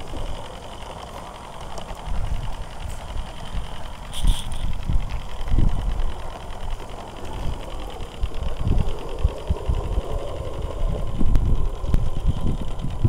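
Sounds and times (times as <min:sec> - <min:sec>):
low rumble: 0:00.0 - 0:13.0
steam locomotive chuffing: 0:00.0 - 0:13.0.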